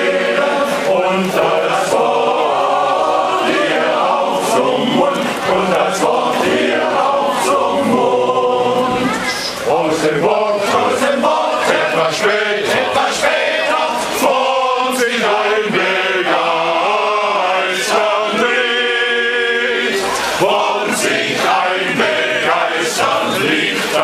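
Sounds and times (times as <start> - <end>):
men's choir singing: 0.0 - 24.0.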